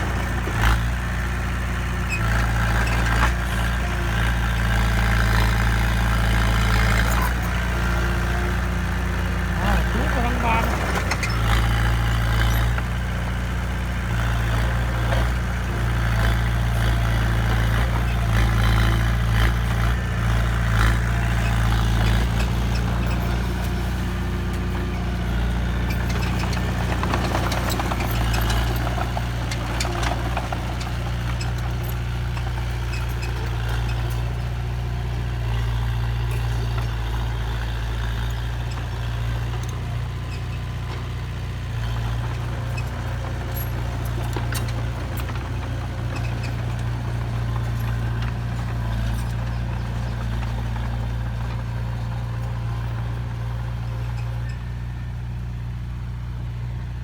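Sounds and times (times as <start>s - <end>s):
truck engine humming: 0.0s - 57.0s.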